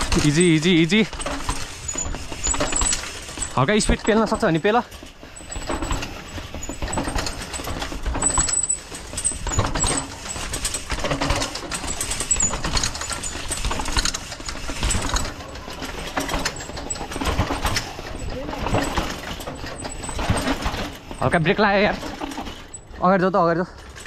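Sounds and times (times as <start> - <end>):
mountain bike rattling over dirt: 0.0 - 24.0.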